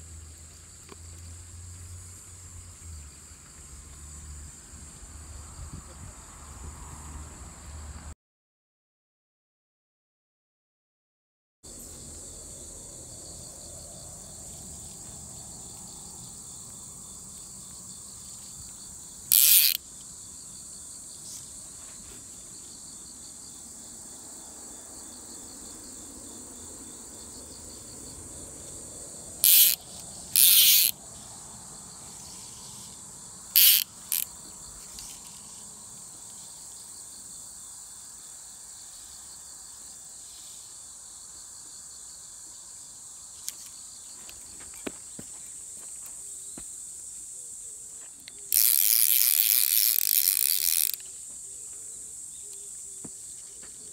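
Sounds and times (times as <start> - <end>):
crickets chirping: 0.0 - 8.2, 11.6 - 53.9.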